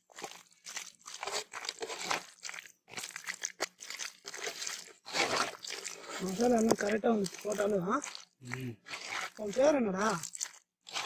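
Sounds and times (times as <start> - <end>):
hand squishing chicken in marinade: 0.0 - 11.0.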